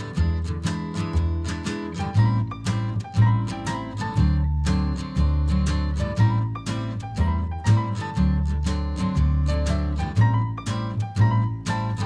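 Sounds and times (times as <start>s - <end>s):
plucked notes over bass line: 0.0s - 12.0s.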